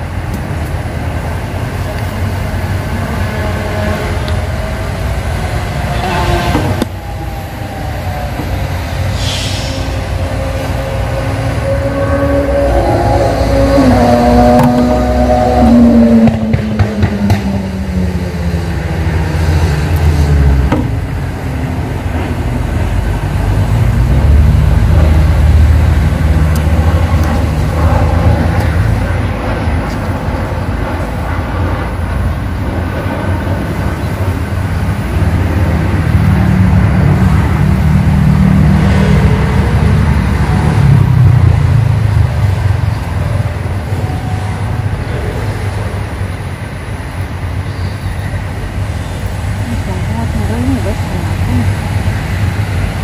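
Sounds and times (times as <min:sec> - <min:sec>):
loud low rumble: 0:00.8 - 0:53.0.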